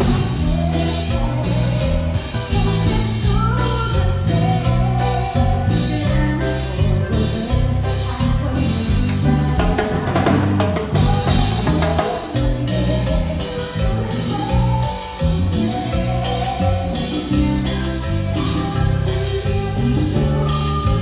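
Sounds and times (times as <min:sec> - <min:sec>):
bass guitar: 0:00.0 - 0:21.0
drum kit: 0:00.0 - 0:21.0
live band playing: 0:00.0 - 0:21.0.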